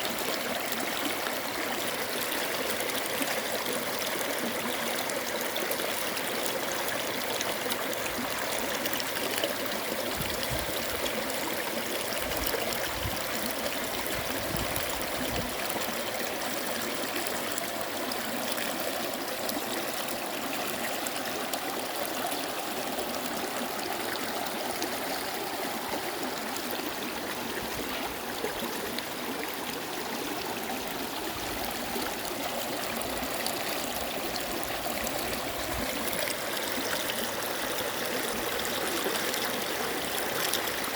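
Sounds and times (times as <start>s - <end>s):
stream running over rocks: 0.0s - 40.9s.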